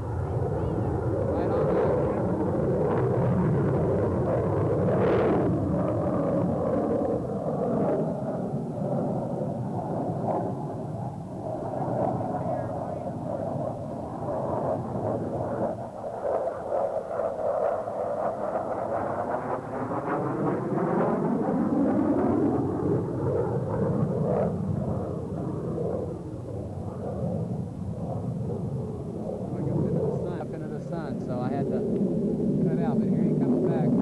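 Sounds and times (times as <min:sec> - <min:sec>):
jet engine flying past: 0:00.0 - 0:34.0.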